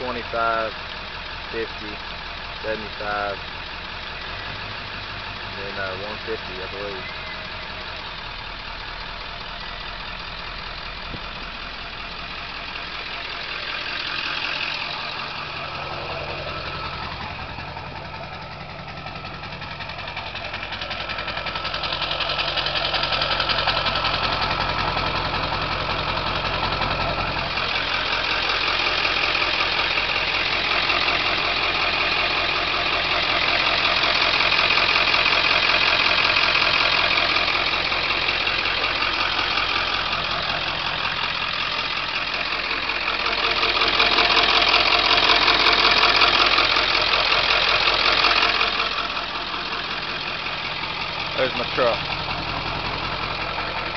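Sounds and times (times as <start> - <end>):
diesel truck engine idling: 0.0 - 53.9.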